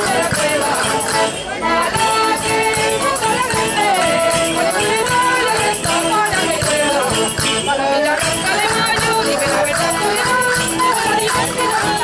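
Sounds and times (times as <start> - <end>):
jingling rattling percussion: 0.0 - 12.0
plucked string instrument: 0.0 - 12.0
women singing together: 0.0 - 12.0.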